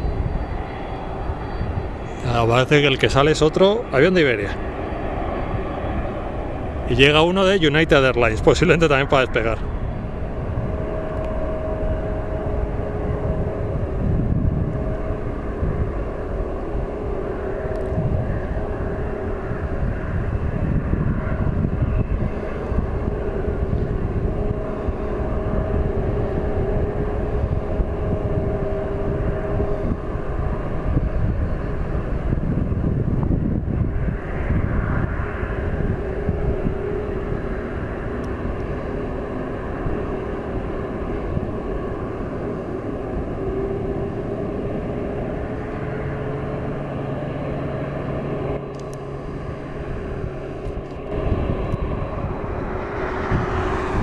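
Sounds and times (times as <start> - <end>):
jet airliner taking off: 0.0 - 54.0.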